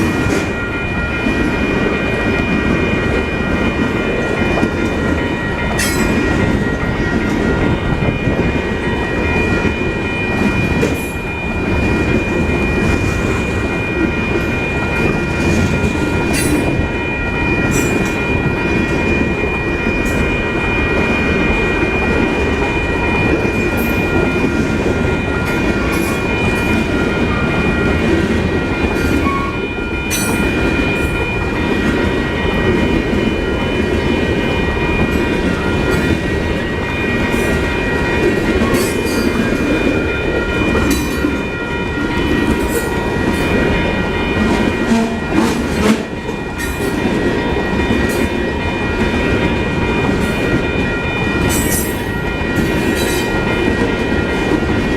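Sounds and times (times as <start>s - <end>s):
steady high tone: 0.0s - 54.9s
train wheels rumbling and clicking: 0.0s - 54.9s.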